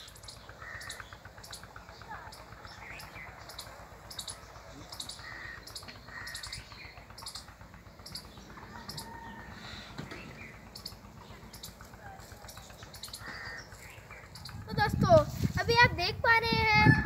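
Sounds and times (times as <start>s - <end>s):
small birds chirping: 0.0s - 15.5s
low steady rumble: 0.0s - 17.0s.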